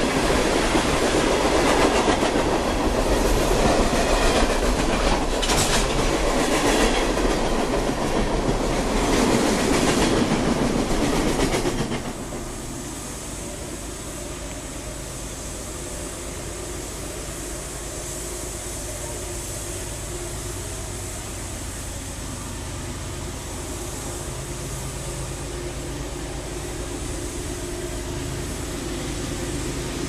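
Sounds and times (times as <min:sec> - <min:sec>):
diesel freight train rumbling: 0:00.0 - 0:30.0.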